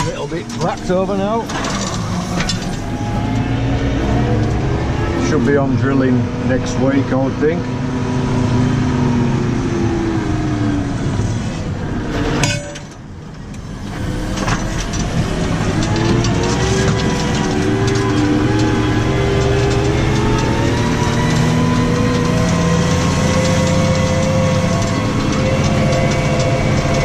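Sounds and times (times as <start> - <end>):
tractor engine running under load: 0.0 - 27.0.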